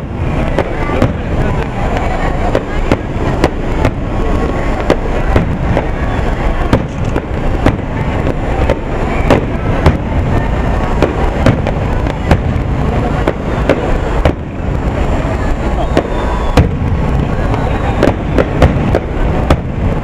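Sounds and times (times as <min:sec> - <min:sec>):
firework shells bursting: 0:00.0 - 0:20.0.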